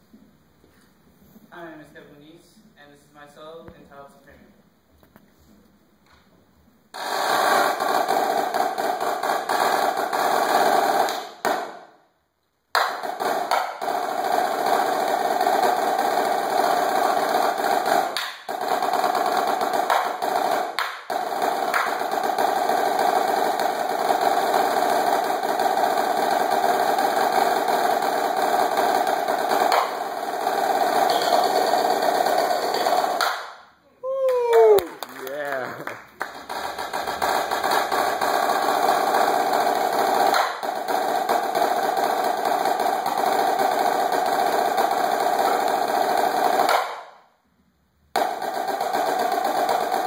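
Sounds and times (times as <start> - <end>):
snare drum rolls: 6.9 - 12.0, 12.7 - 33.7, 34.5 - 47.2, 48.1 - 50.0.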